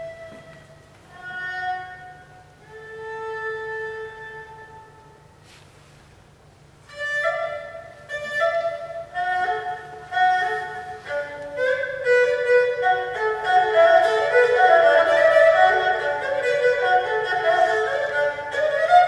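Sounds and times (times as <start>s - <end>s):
erhu playing short quick notes: 0.0s - 6.0s, 6.8s - 19.0s.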